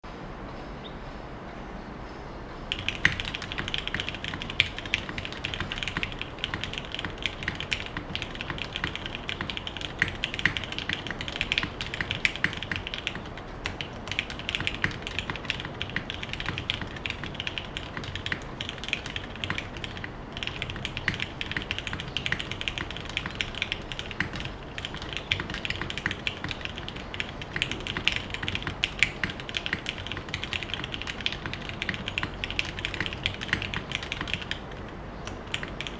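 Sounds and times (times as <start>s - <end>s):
fast typing key clacks: 2.7s - 35.9s.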